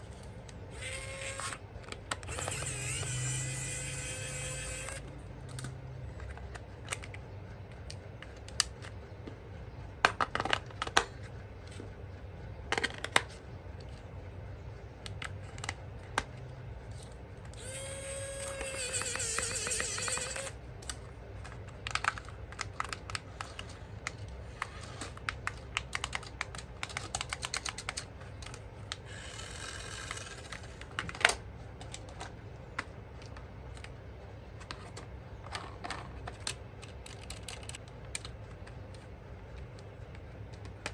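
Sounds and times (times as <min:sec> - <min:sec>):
steady low hum: 0:00.0 - 0:40.9
plastic parts clicking and rattling: 0:00.7 - 0:09.4, 0:10.0 - 0:11.9, 0:12.7 - 0:14.1, 0:15.0 - 0:40.9.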